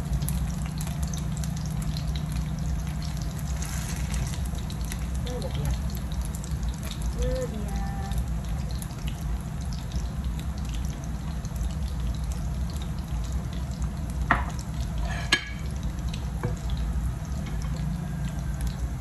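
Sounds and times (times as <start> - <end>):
oil popping and crackling: 0.0 - 19.0
patties sizzling in oil: 0.0 - 19.0.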